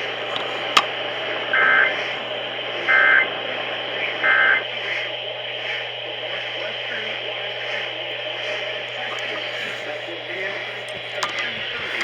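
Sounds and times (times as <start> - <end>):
steady hiss and hum: 0.0 - 12.0.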